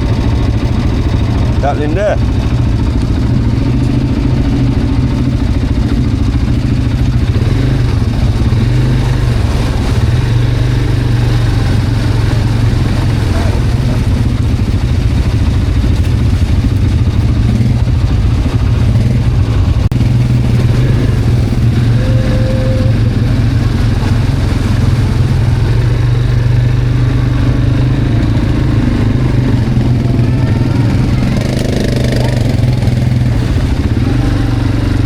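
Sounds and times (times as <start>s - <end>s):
quad bike engine droning: 0.0s - 35.0s.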